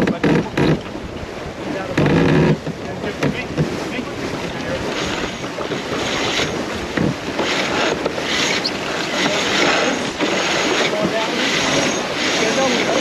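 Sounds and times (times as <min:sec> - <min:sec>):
water splashing around boat: 0:00.0 - 0:13.0
wind buffeting microphone: 0:00.0 - 0:13.0.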